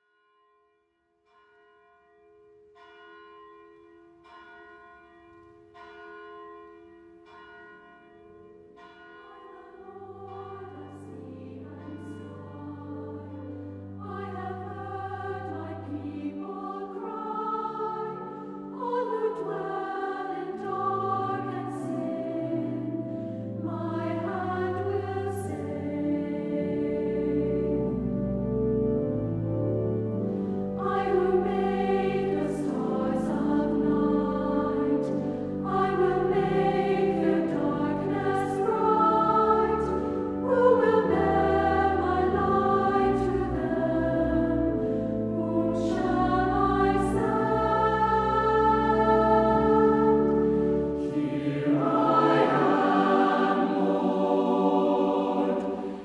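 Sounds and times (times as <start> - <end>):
choir singing: 9.6 - 56.0.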